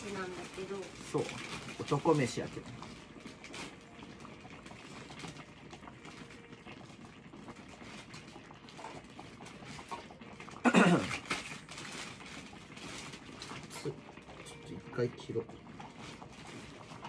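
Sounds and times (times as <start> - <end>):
broth sloshing: 0.0 - 17.0.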